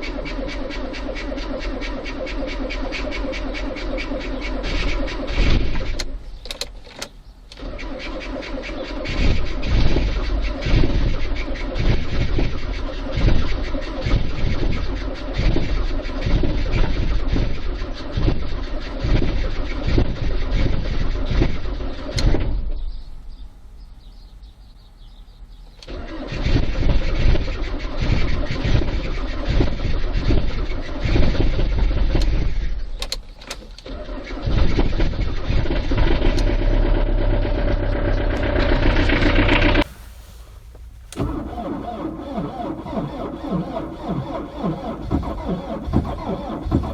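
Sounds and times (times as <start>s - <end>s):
diesel engine cranking slowly: 0.0s - 23.5s, 25.4s - 46.9s.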